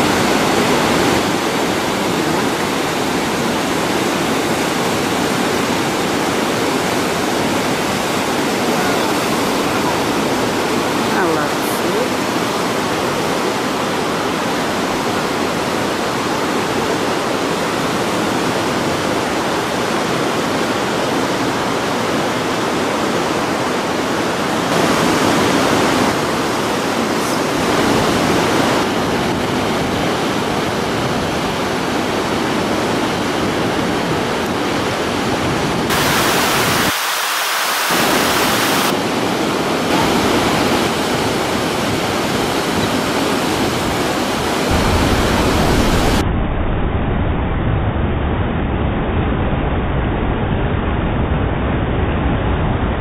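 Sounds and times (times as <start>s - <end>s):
whitewater rapids rushing: 0.0s - 46.2s.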